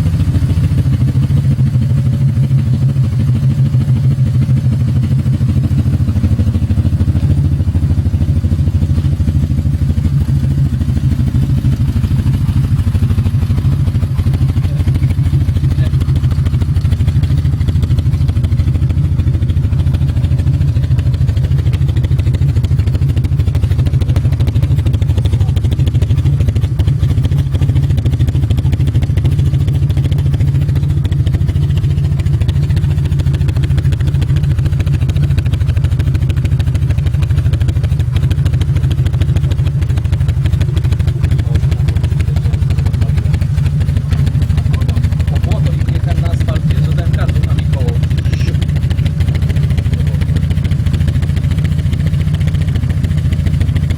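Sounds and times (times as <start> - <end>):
motorcycle engine idling: 0.0 - 53.9.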